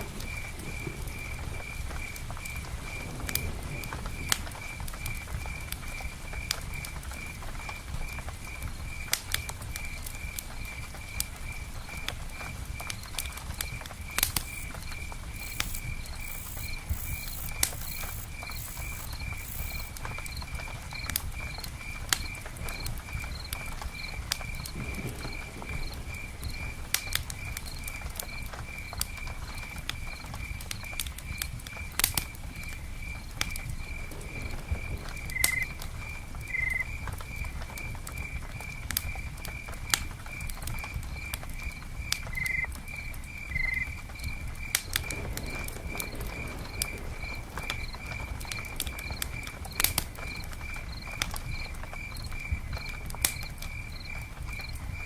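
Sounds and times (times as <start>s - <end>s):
campfire crackling: 0.0s - 55.0s
low rumble of rain: 0.0s - 55.0s.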